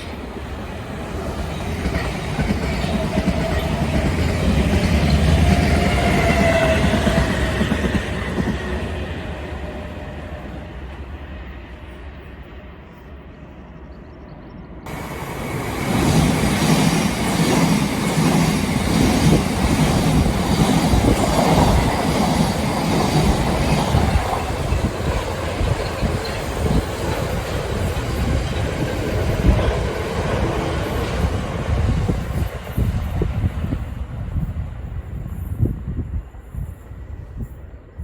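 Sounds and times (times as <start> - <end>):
passenger train passing: 0.0 - 38.0.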